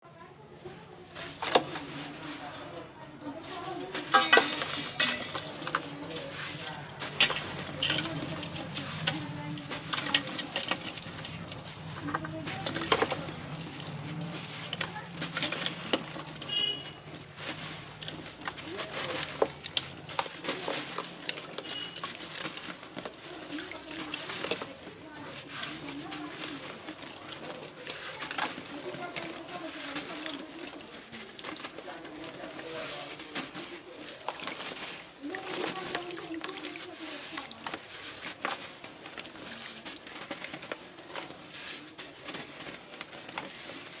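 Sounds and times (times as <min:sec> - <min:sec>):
dry dirt crumbling: 0:00.7 - 0:44.0.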